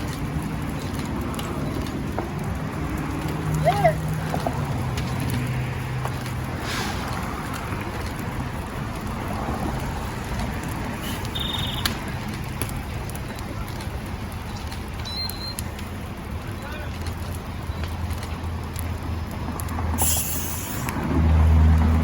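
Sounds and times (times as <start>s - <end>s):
fire hose water spraying: 0.0s - 22.0s
low engine hum: 0.0s - 22.0s.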